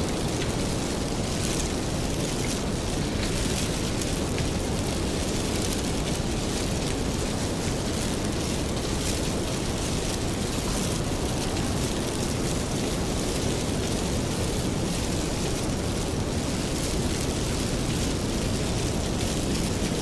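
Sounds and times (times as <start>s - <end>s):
steady rain rumble: 0.0s - 20.0s
wood fire burning: 0.0s - 20.0s.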